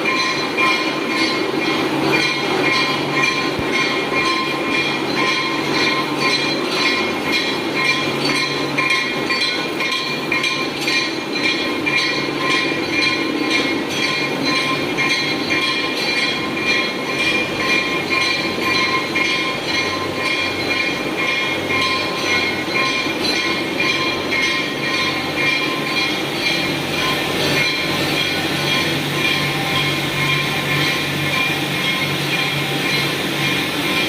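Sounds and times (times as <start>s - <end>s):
factory machinery whirring: 0.0s - 34.0s.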